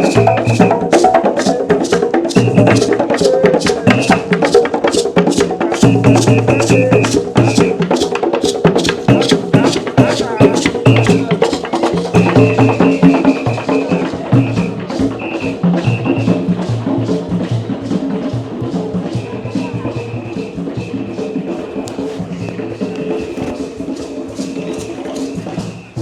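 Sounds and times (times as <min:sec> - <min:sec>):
upbeat music with percussion: 0:00.0 - 0:26.0.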